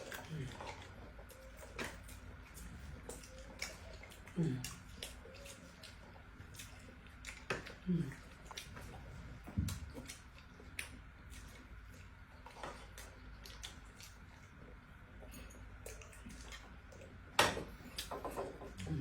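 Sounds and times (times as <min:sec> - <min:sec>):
soft wet squishing: 0:00.0 - 0:19.0.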